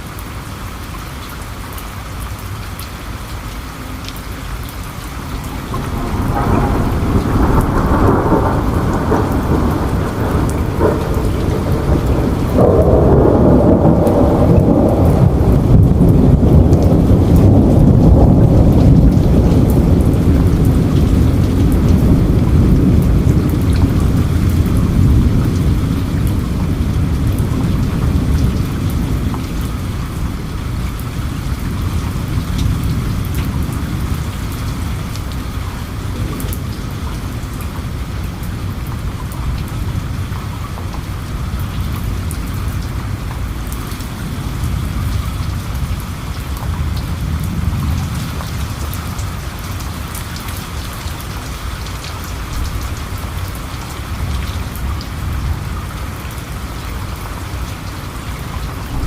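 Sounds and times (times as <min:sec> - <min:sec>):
steady rain: 0:00.0 - 0:59.0
low roll of thunder: 0:04.9 - 0:59.0.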